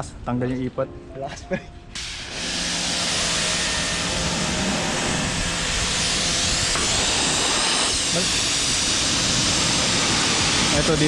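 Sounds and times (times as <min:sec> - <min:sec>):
pressure washer jet hissing: 0:02.0 - 0:11.0
pump motor humming: 0:02.0 - 0:11.0.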